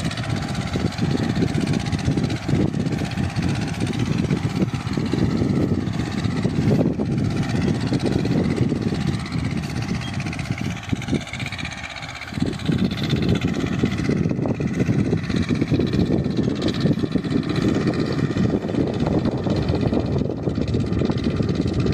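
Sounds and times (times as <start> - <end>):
tractor diesel engine running hard: 0.0 - 21.9.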